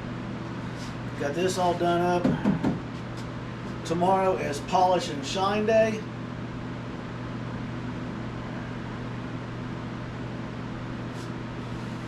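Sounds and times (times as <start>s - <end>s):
machine hum with hiss: 0.0s - 12.0s.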